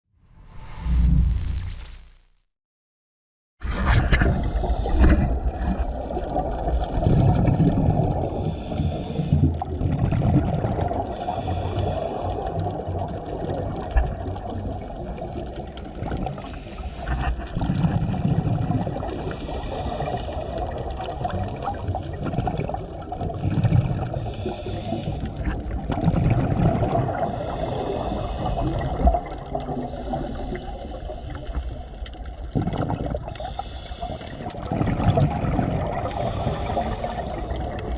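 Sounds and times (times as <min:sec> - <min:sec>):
exhaled bubbles gurgling underwater: 0:03.6 - 0:37.9.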